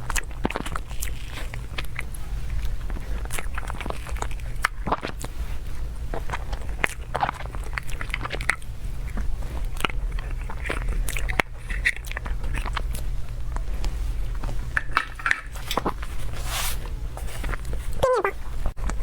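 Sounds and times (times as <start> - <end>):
biting and chewing: 0.0 - 19.0.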